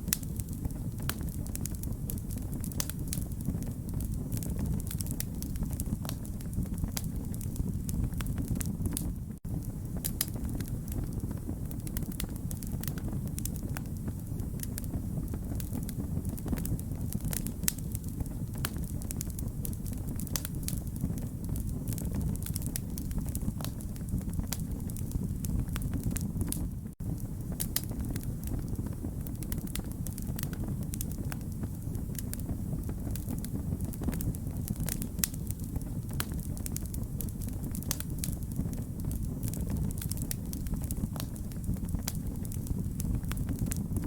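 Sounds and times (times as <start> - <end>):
burning logs crackling and popping: 0.0 - 44.0
low rumble of flames: 0.0 - 44.0.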